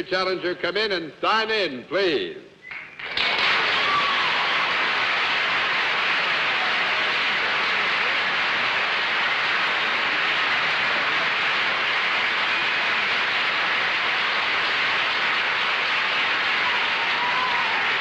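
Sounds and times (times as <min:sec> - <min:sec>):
studio audience applauding: 0:02.7 - 0:18.0.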